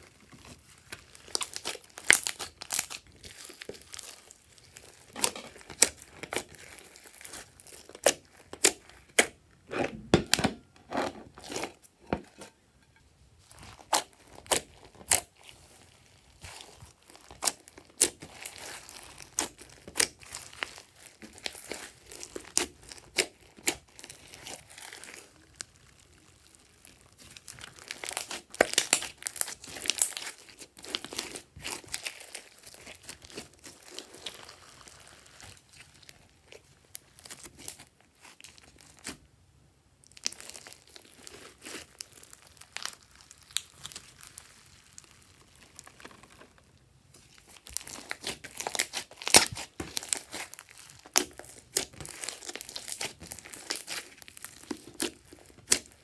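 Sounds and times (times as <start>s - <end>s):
slime crackling and popping: 0.0s - 9.4s, 13.5s - 39.3s, 40.0s - 56.0s.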